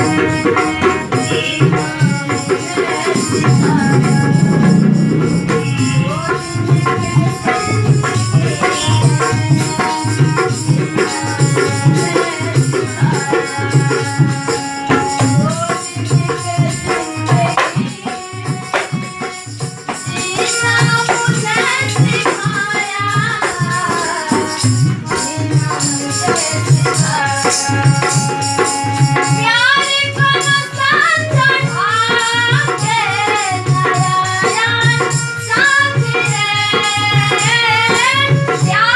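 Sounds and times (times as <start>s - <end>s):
dholak drum beat: 0.0s - 38.9s
harmonium: 0.0s - 38.9s
girl singing: 1.6s - 19.4s, 20.0s - 28.4s, 29.4s - 38.9s.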